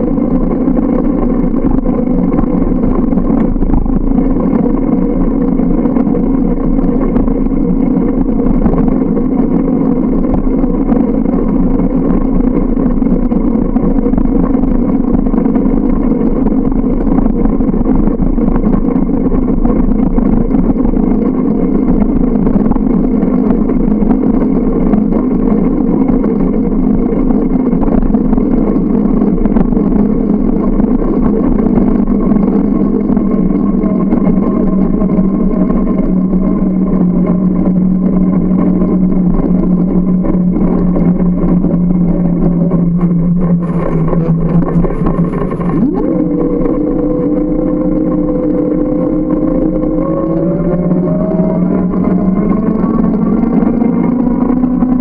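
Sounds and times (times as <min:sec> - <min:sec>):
bike running hum: 0:00.0 - 0:55.0
noisy rush: 0:00.0 - 0:55.0.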